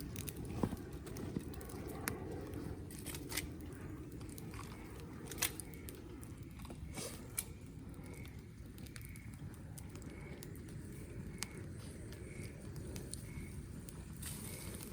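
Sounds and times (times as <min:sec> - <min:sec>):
fire popping: 0:00.0 - 0:14.9
wood fire crackling: 0:00.0 - 0:14.9.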